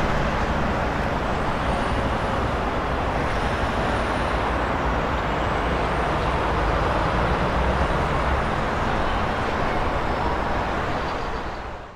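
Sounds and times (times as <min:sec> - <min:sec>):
vehicle rumble: 0:00.0 - 0:11.9.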